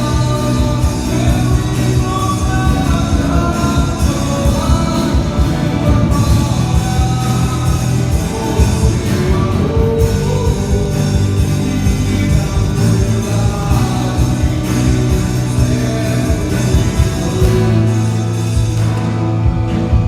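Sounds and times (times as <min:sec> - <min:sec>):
live band playing: 0:00.0 - 0:20.0
steady drum beat: 0:00.0 - 0:20.0.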